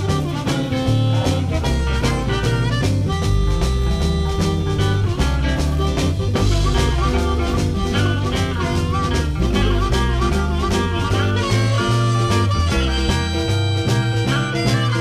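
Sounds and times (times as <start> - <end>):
bending lead guitar line: 0.0 - 15.0
electric blues band playing: 0.0 - 15.0.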